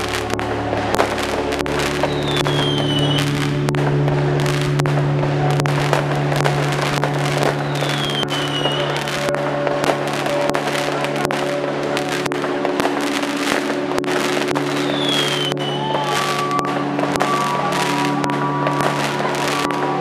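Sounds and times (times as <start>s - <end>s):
fireworks crackling and banging: 0.0s - 20.0s
falling firework whistle: 0.9s - 3.6s, 5.5s - 20.0s.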